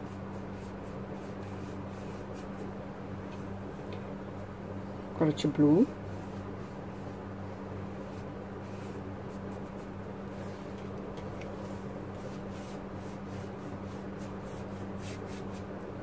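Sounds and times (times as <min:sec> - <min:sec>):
paintbrush strokes on paper: 0:00.0 - 0:03.5, 0:04.4 - 0:15.8.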